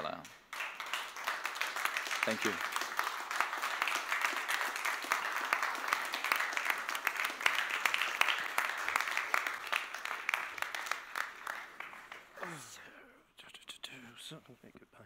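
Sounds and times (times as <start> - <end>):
audience applauding: 0.3 - 12.6.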